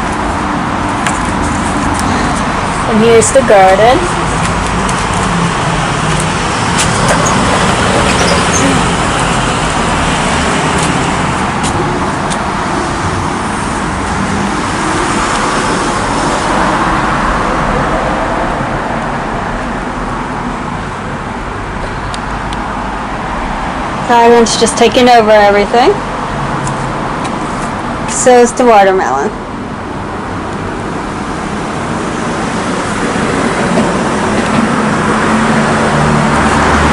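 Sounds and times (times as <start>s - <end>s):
road traffic roar: 0.0s - 36.9s.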